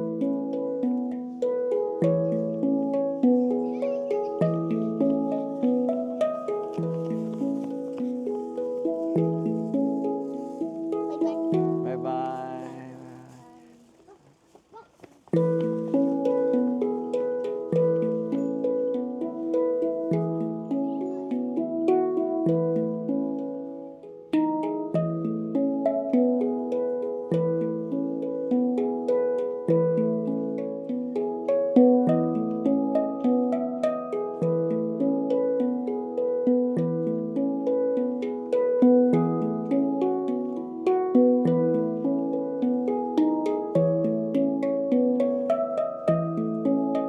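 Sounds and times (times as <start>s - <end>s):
handpan notes ringing: 0.0s - 13.7s, 15.3s - 47.0s.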